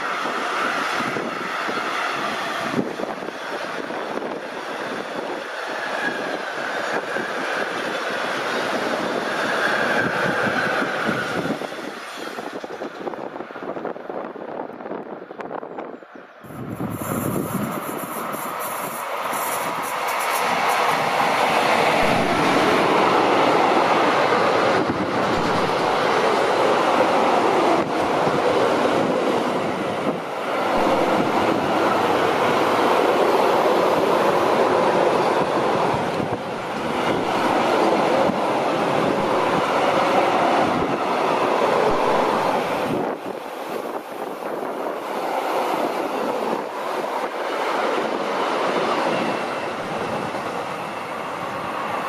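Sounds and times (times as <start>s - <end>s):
train wheels rumbling on rails: 0.0s - 15.8s, 16.4s - 52.0s.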